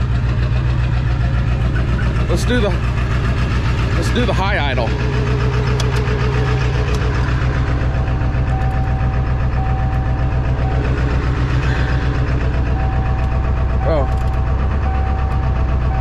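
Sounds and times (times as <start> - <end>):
diesel truck engine high idle: 0.0 - 16.0.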